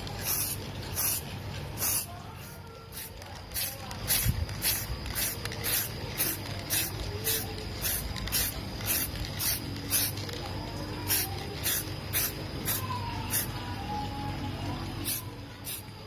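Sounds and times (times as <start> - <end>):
spray paint can hissing bursts: 0.0 - 14.1, 14.9 - 16.0.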